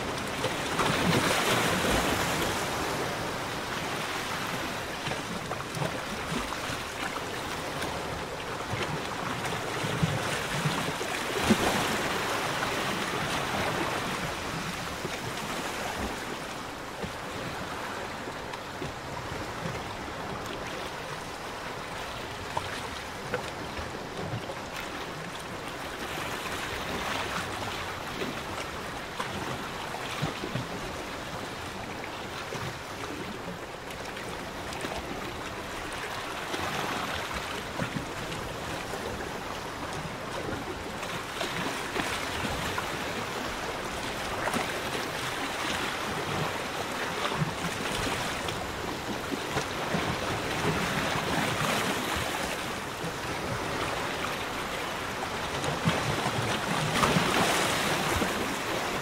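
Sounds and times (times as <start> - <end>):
water lapping in small waves: 0.0 - 59.0.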